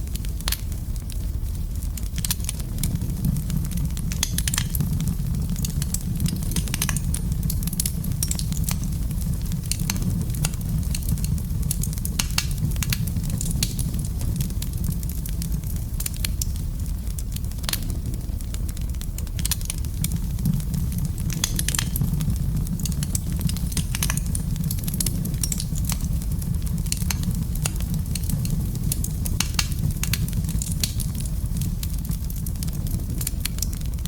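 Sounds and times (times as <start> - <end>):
fire crackling and popping: 0.0 - 34.0
fire rumbling: 0.0 - 34.0.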